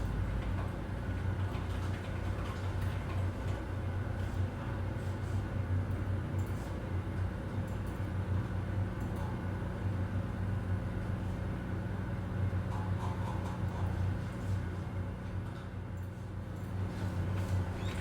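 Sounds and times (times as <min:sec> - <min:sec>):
ventilation hum: 0:00.0 - 0:18.0.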